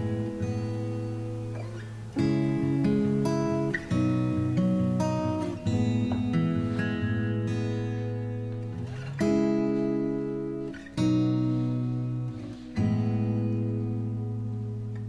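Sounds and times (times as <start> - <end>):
acoustic guitar chords ringing: 0.0 - 15.0.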